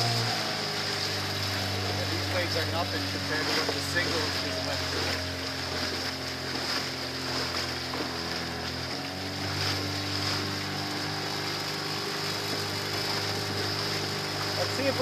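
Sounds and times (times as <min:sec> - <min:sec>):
motorboat engine running: 0:00.0 - 0:15.0
water washing: 0:00.0 - 0:15.0
wind: 0:00.0 - 0:15.0.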